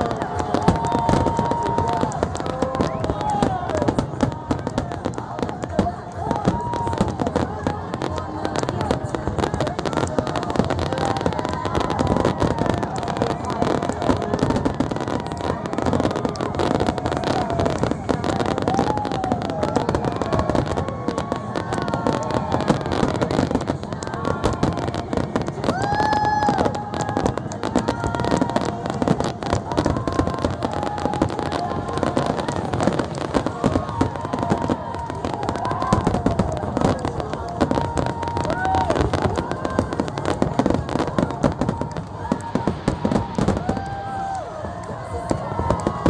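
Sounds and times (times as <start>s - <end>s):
fireworks crackling and popping: 0.0s - 46.0s
whistling fireworks tones: 0.0s - 46.0s.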